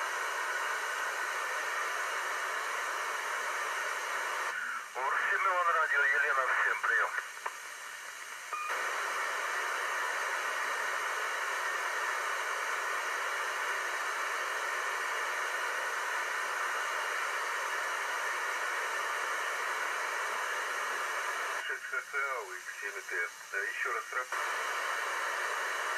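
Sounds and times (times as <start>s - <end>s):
radio static hiss: 0.0s - 25.9s.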